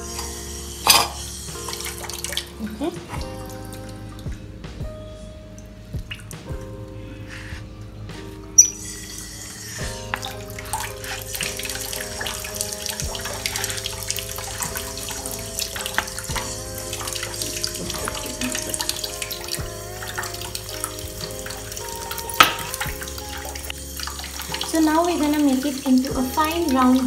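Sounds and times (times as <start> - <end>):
background music with held chords: 0.0 - 27.0.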